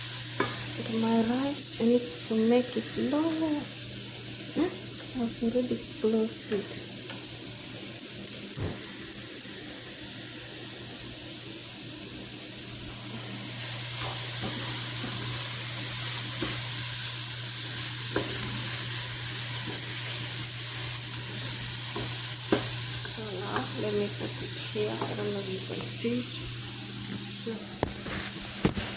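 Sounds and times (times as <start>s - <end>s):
vegetables sizzling in oil: 0.0s - 28.9s.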